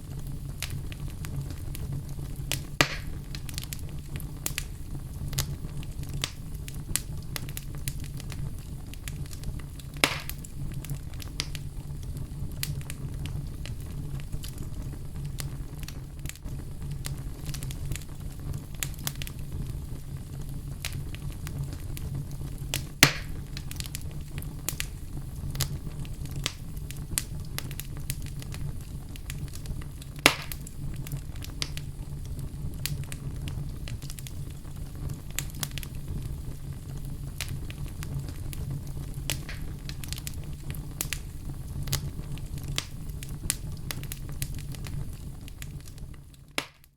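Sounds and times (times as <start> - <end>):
fire crackling: 0.0 - 46.9
loud fire pops: 0.0 - 46.9
wood fire rumbling: 0.0 - 46.9.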